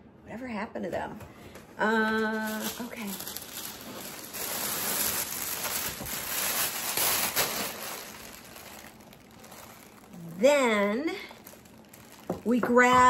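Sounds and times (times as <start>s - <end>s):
packaging rustling and crinkling: 2.0s - 13.0s.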